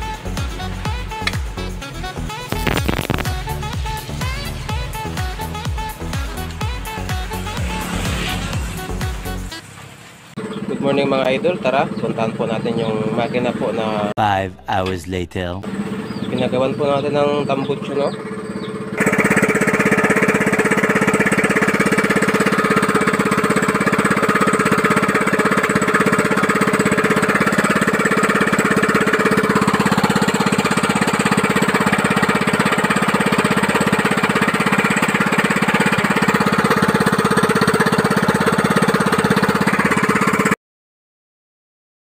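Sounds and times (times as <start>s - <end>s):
small engine running steadily: 0.0s - 14.1s, 15.6s - 40.6s.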